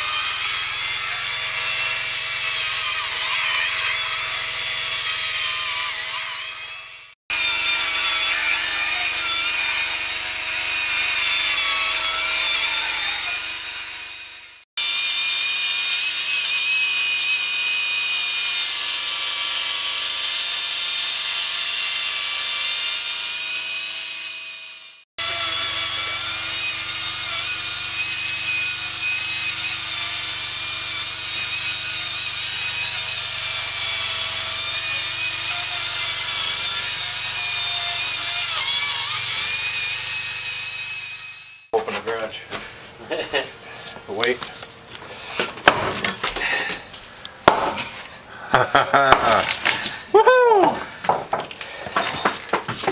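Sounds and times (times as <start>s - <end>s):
power saw cutting wood: 0.0s - 42.4s, 49.0s - 50.0s.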